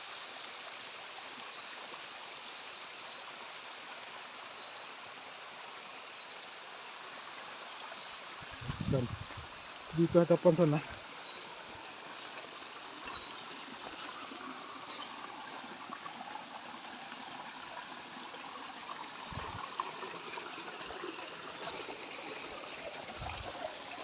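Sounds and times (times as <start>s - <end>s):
stream water running: 0.0s - 24.0s.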